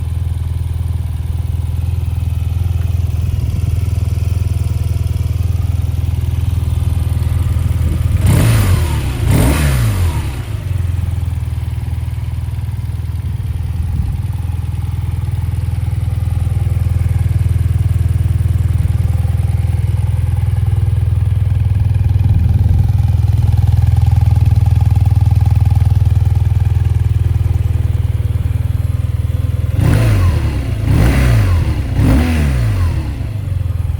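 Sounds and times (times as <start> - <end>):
motorcycle engine idling: 0.0 - 33.9
motorcycle throttle blips: 0.3 - 33.9.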